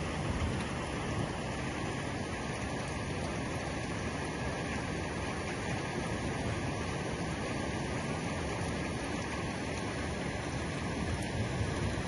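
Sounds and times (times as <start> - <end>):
heavy rain on roofs: 0.0 - 12.0.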